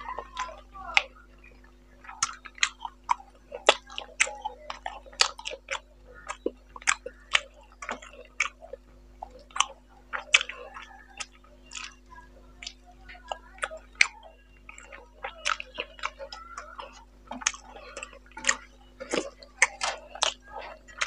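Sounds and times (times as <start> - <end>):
wet chewing mouth clicks: 0.0 - 21.0.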